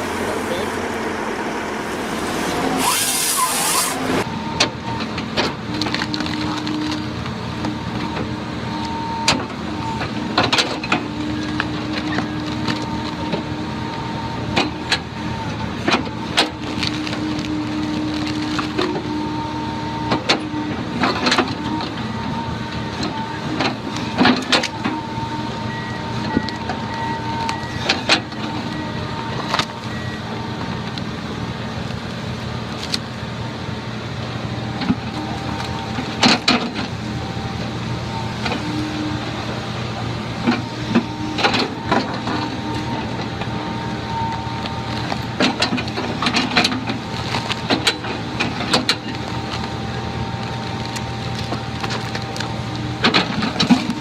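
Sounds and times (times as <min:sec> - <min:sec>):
heavy machinery humming: 0:00.0 - 0:54.0.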